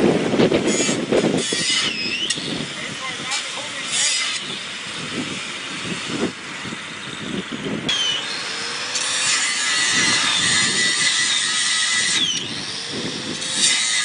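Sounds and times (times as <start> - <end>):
wind buffeting microphone: 0.0 - 14.0
power tool whining: 0.3 - 14.0.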